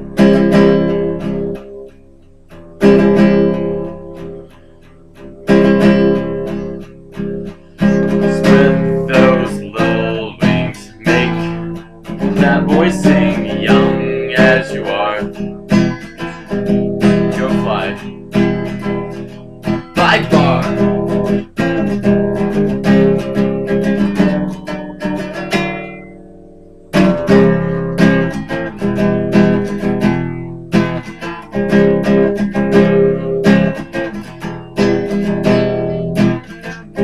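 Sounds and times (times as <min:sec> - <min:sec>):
acoustic guitar strumming chords: 0:00.0 - 0:37.0.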